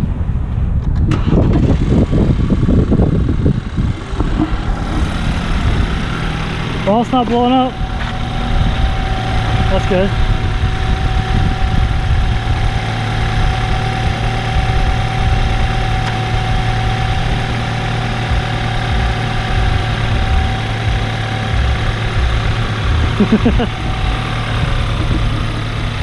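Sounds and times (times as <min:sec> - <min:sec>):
car engine idling: 0:01.2 - 0:26.0.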